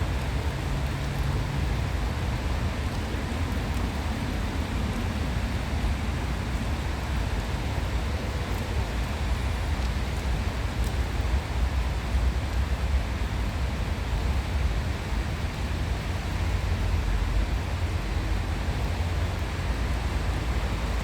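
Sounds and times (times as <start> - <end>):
steady rushing outdoor noise: 0.0 - 21.0.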